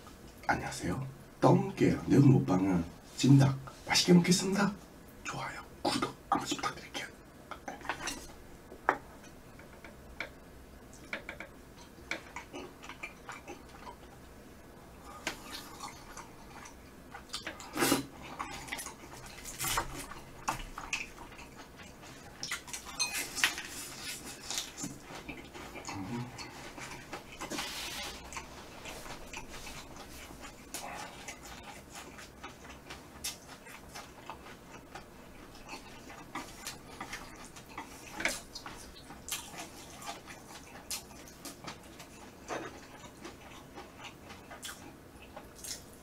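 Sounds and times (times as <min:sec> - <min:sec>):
chewing: 0:05.9 - 0:08.4, 0:09.2 - 0:14.3, 0:15.0 - 0:46.0.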